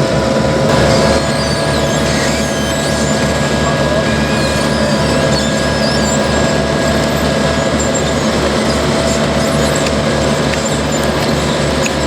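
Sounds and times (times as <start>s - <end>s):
diesel engine throbbing: 0.0s - 12.0s
high-pitched squeaks: 0.0s - 12.0s.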